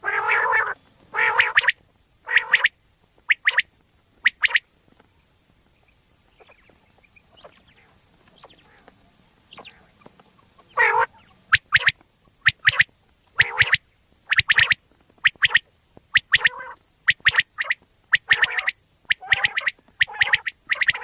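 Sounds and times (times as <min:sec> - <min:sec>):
quail calling: 0:00.0 - 0:04.7, 0:06.3 - 0:21.0.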